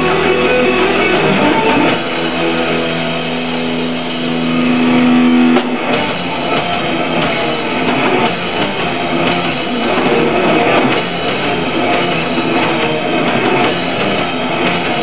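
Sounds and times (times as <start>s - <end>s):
distorted electric guitar: 0.0s - 15.0s
metal band playing live: 0.0s - 15.0s.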